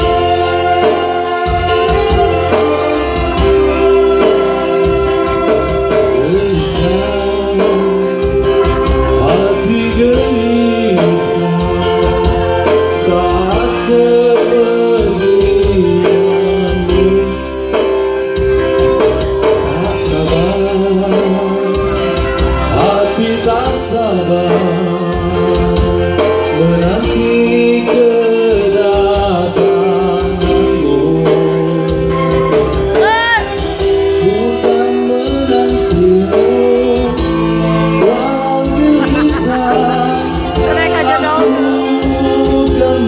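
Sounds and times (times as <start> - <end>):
slow love song: 0.0 - 43.0.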